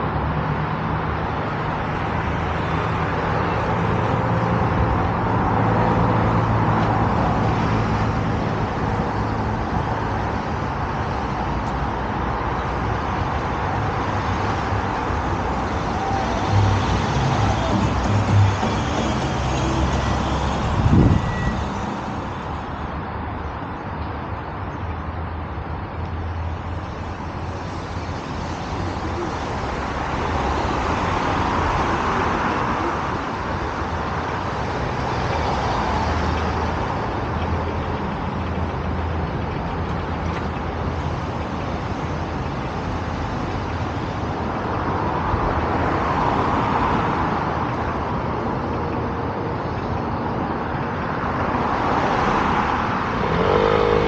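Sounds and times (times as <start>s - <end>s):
road traffic hiss: 0.0s - 54.0s
vehicles passing close by: 0.0s - 54.0s.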